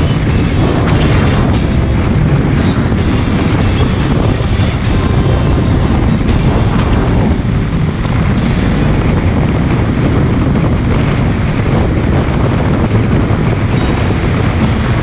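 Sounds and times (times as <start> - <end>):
loud steady rumble: 0.0 - 15.0
wind noise on microphone: 0.0 - 15.0.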